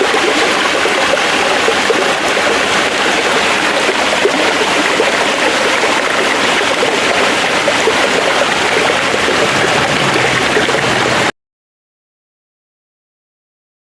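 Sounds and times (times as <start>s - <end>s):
stream rushing water: 0.0s - 11.3s.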